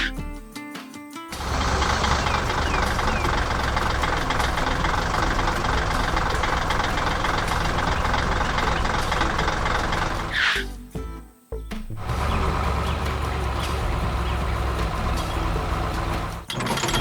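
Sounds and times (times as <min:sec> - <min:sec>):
diesel engine clattering: 0:01.3 - 0:10.4, 0:12.0 - 0:17.0.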